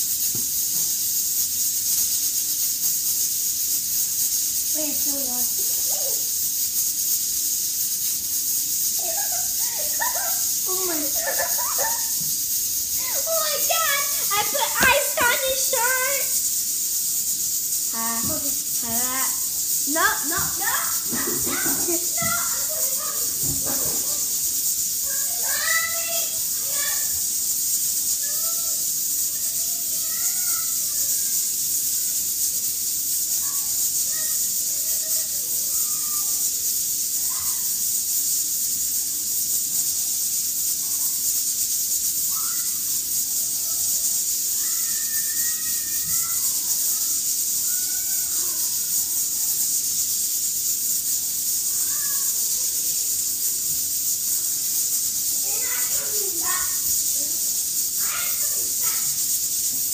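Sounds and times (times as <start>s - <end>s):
high-pitched hiss: 0.0s - 59.9s.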